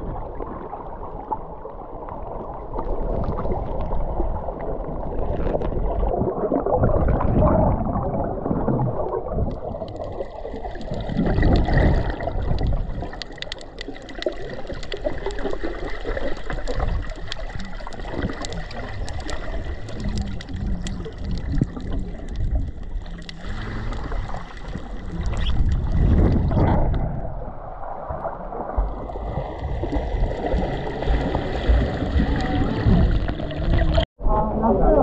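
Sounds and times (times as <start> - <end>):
water sloshing and gurgling: 0.0 - 35.0.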